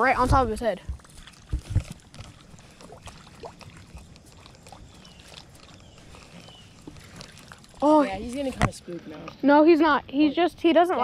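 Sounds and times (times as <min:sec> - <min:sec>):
faint water sounds: 0:00.0 - 0:11.0.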